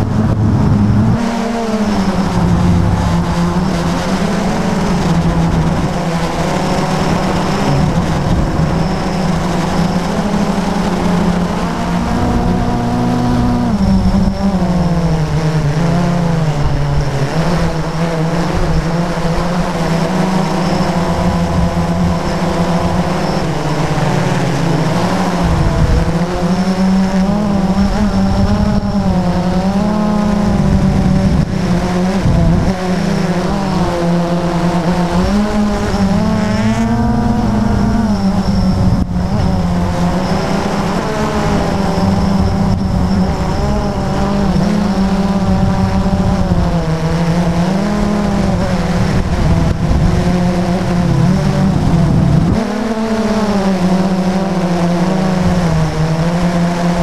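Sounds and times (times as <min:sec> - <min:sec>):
drone motors and propellers humming: 0:00.0 - 0:57.0.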